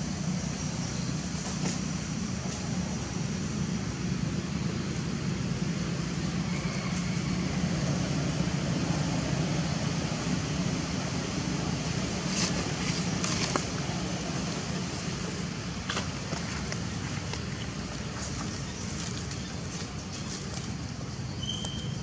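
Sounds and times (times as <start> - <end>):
outdoor rumble and hiss: 0.0 - 22.0.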